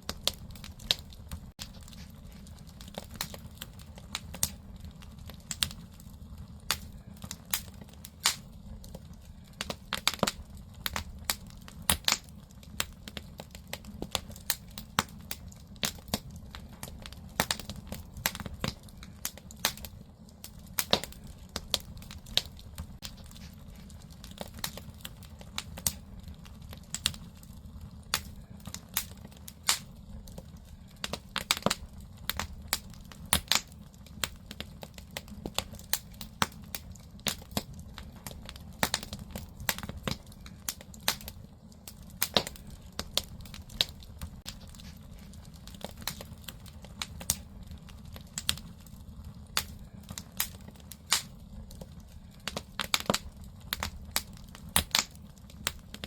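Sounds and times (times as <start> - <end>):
fire low rumble: 0.0 - 56.0
firewood crackling and popping: 0.0 - 56.0.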